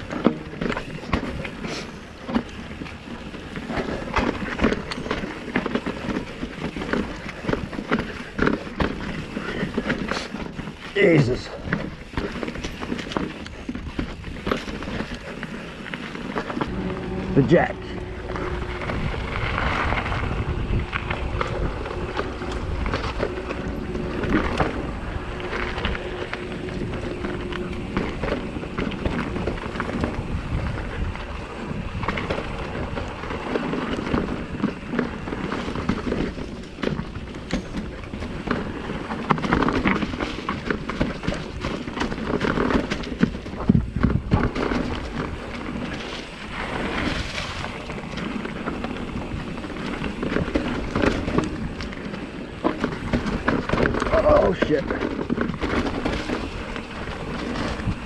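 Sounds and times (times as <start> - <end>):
bike rattling: 0.0 - 17.0, 18.1 - 58.0
rushing wind noise: 0.0 - 58.0.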